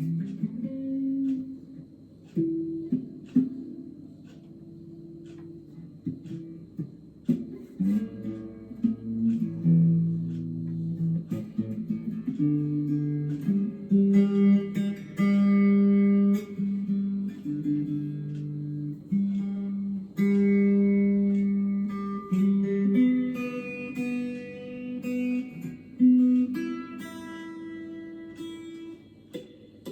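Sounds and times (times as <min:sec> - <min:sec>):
electric guitar notes and chords: 0:00.0 - 0:29.9.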